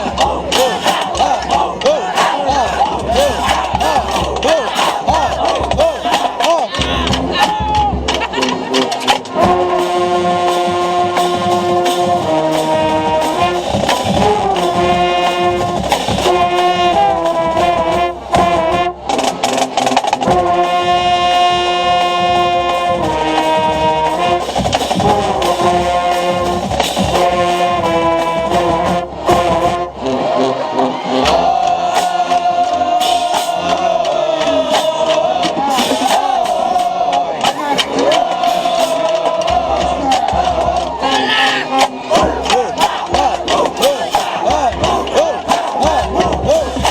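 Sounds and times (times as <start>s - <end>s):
brass chords: 0.0s - 46.9s
drumline strikes: 0.0s - 46.9s.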